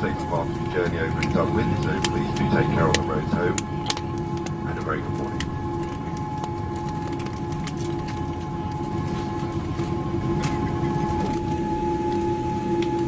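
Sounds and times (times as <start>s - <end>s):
aircraft cabin low rumble: 0.0s - 13.0s
steady whining tones: 0.0s - 13.0s.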